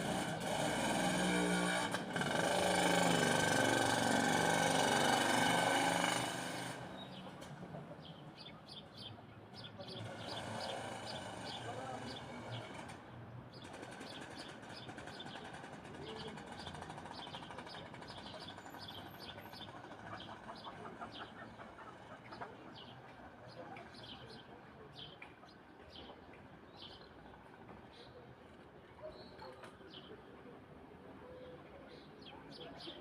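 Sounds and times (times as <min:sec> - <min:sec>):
low outdoor background: 0:00.0 - 0:33.0.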